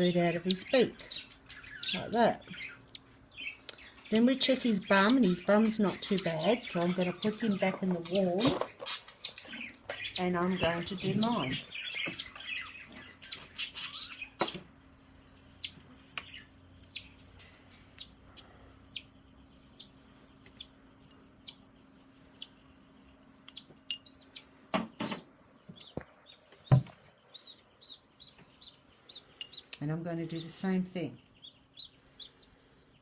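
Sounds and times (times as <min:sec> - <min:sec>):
budgerigar chirping: 0:00.1 - 0:14.6, 0:15.3 - 0:17.1, 0:17.8 - 0:22.6, 0:23.2 - 0:26.7, 0:27.3 - 0:29.7, 0:31.2 - 0:32.5.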